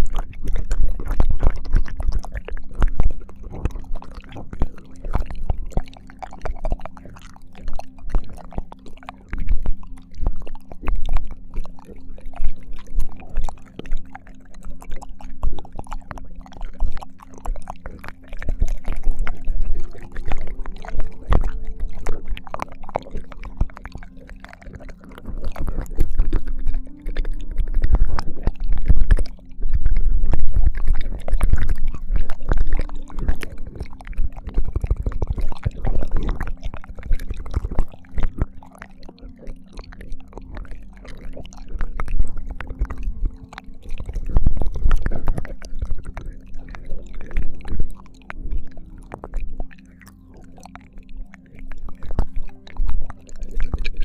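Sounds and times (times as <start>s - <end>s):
low rumble: 0.0s - 54.0s
wet licking mouth sounds: 0.0s - 54.0s.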